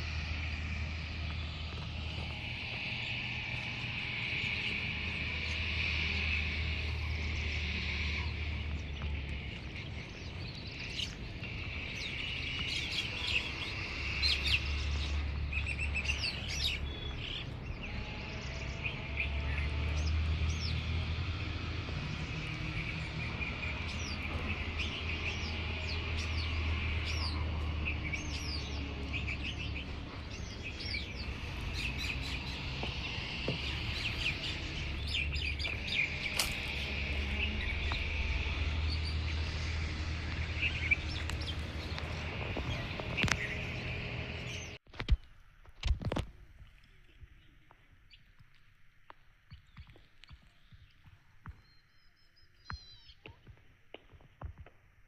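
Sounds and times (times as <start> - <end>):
birds chirping and calling: 0.0 - 44.8, 49.6 - 53.6
steady low rumble: 0.0 - 44.8.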